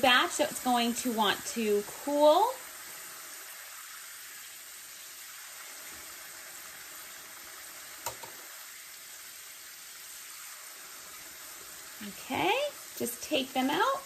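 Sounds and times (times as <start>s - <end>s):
potato slices sizzling in oil: 0.0s - 14.0s.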